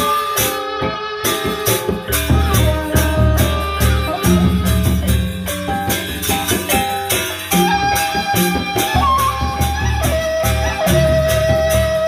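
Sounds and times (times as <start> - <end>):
large barrel drums beating: 1.4 - 12.0.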